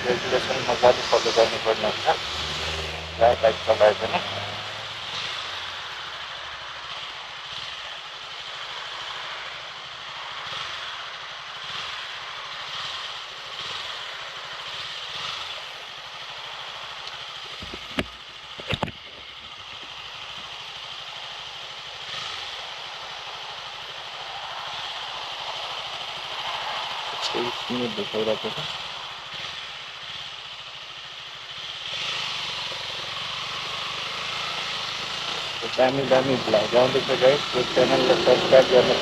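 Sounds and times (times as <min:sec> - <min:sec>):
motorcycle engine running: 0:00.0 - 0:39.0
wind and road noise: 0:00.0 - 0:39.0.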